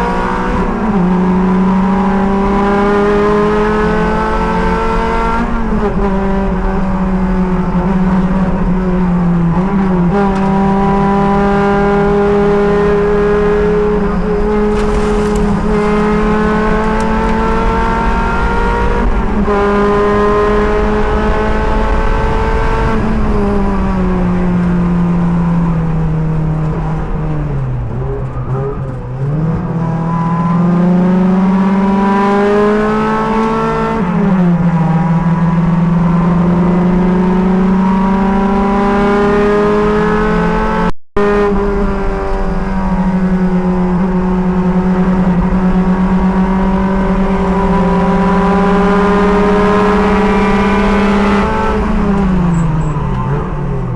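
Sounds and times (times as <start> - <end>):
sports car engine accelerating: 0.0 - 53.9.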